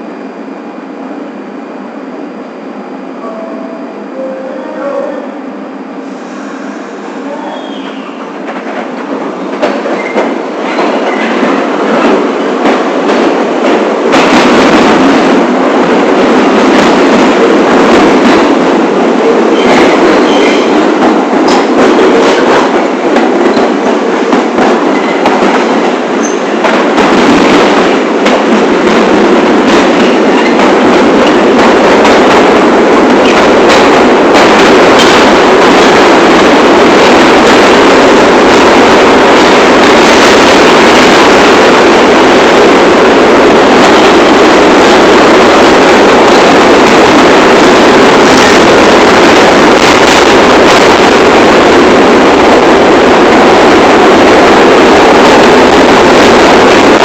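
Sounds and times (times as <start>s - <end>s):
subway train running on track: 0.0s - 57.0s.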